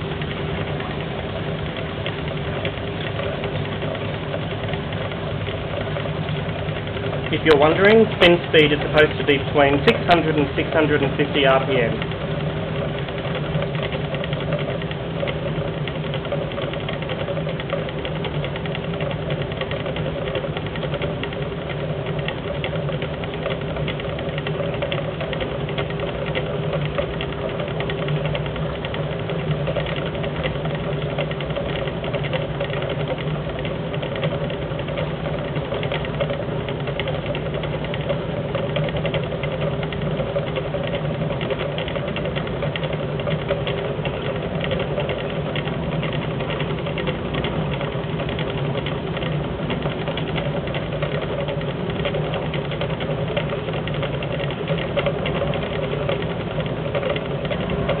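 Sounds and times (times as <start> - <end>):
fast even rattle: 0.0 - 58.0
washing machine spinning: 0.0 - 58.0.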